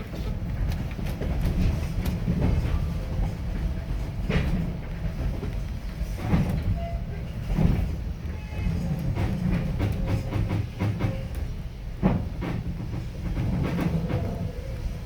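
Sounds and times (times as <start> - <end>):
train rumbling on rails: 0.0 - 15.0
clacks and knocks: 0.1 - 6.7, 8.6 - 14.6.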